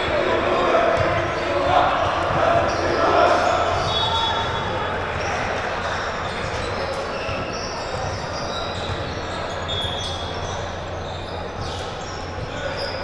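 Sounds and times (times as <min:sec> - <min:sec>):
crowd chatter in echoing hall: 0:00.0 - 0:13.0
sneaker squeaks: 0:02.3 - 0:13.0.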